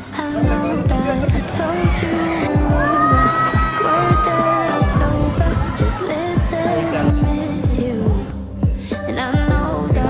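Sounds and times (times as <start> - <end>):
person singing pop: 0.0 - 10.0
electronic beat with kick bass: 0.4 - 10.0.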